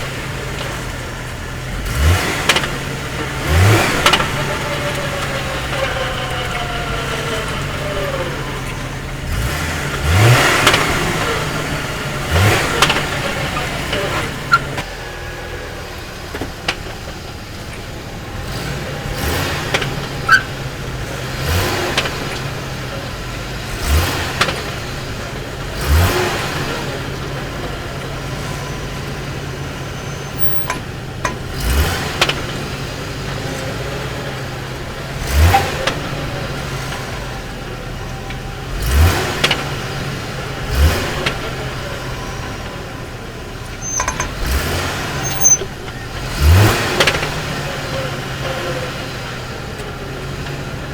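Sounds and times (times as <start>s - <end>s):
truck clunks: 0.0s - 50.9s
truck engine running: 0.0s - 50.9s.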